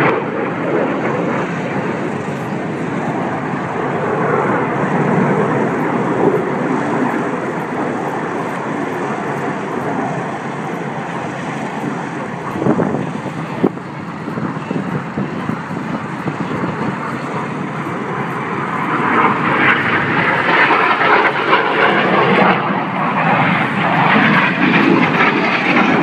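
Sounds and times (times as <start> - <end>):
jets flying past: 0.0 - 26.0
wind buffeting microphone: 0.0 - 26.0.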